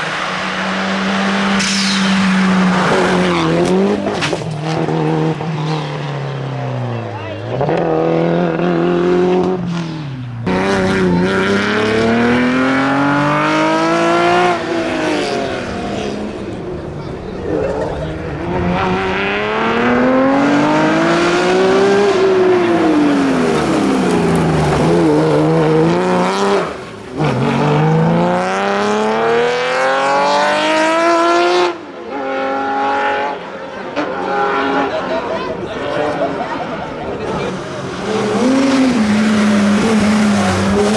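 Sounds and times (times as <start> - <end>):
rally car engines at full throttle: 0.0 - 40.9.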